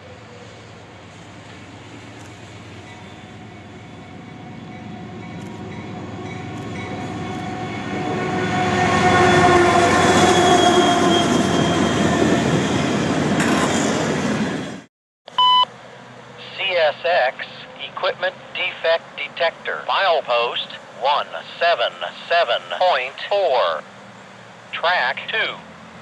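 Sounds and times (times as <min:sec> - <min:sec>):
freight train passing: 0:00.0 - 0:14.9, 0:15.8 - 0:26.0.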